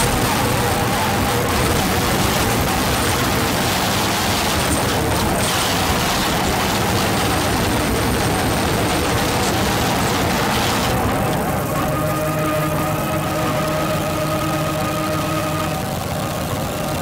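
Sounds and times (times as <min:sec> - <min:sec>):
faint steady tones: 0:00.0 - 0:17.0.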